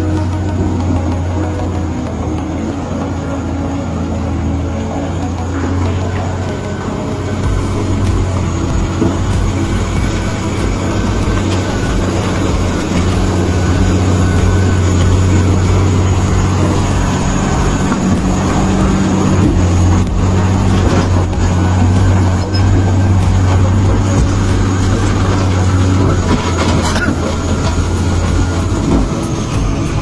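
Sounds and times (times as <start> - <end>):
heavy diesel engine drone: 0.0 - 30.0
metallic clanking and squealing: 5.1 - 30.0.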